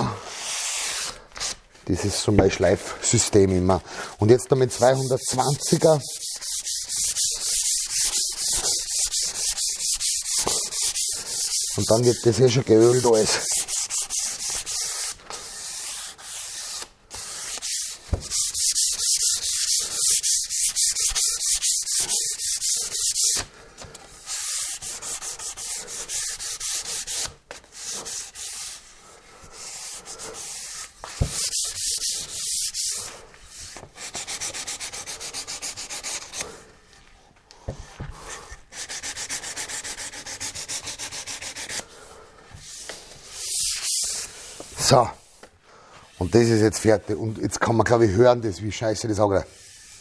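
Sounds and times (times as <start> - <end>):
sandpaper rubbing on wood: 0.2 - 1.6, 4.3 - 23.5, 24.2 - 36.4, 38.3 - 41.8, 42.6 - 45.4, 46.1 - 47.0, 49.2 - 50.0.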